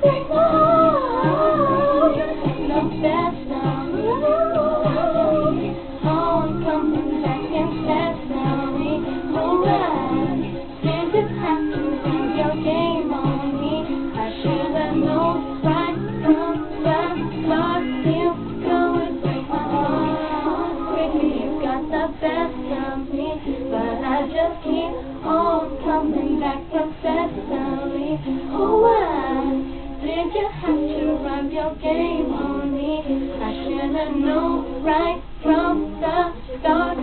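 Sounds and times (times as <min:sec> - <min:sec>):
background music: 0:00.0 - 0:37.0
woman singing: 0:00.0 - 0:37.0.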